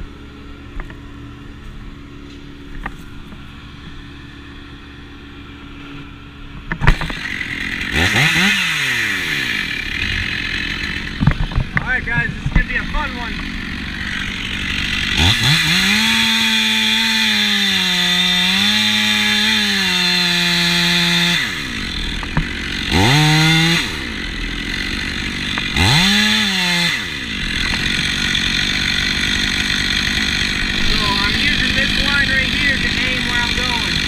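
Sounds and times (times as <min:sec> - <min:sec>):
chainsaw revving and cutting wood: 0:00.0 - 0:34.0.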